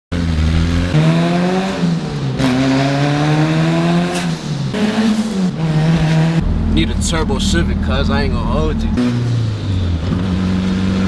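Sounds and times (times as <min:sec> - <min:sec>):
car engine running hard: 0:00.1 - 0:11.0.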